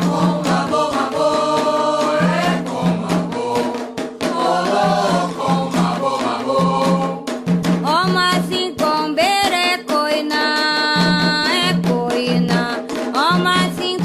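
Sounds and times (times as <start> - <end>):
hand drumming and percussion: 0.0 - 14.0.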